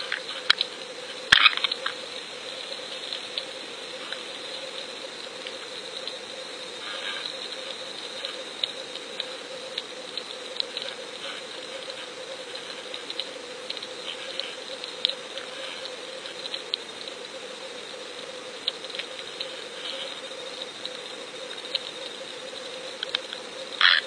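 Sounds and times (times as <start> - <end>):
sharp clicks and crackles: 0.0 - 2.0, 2.7 - 6.3, 7.0 - 17.3, 18.6 - 24.0
steady underwater hiss: 0.0 - 24.0.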